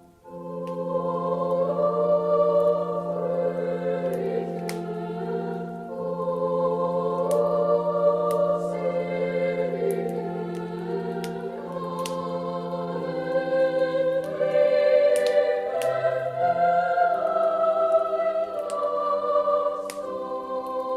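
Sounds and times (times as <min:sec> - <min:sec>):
choir singing over organ: 0:00.0 - 0:20.9
log fire crackling: 0:00.0 - 0:20.9.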